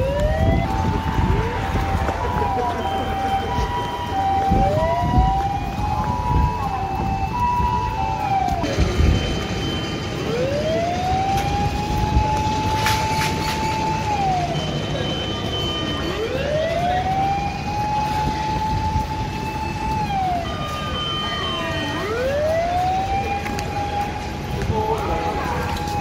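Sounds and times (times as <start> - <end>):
fire engine siren wailing: 0.0 - 26.0
low street rumble: 0.0 - 26.0.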